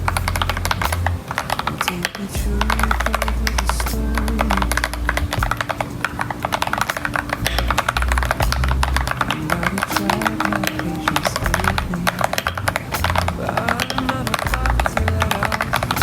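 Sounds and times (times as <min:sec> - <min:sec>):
background music with heavy bass: 0:00.0 - 0:16.0
mechanical keyboard typing: 0:00.1 - 0:16.0.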